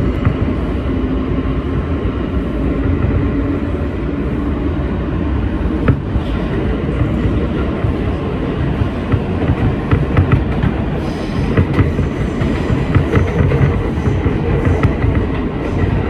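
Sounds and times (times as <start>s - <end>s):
subway wheels rumbling on rail: 0.0s - 16.0s.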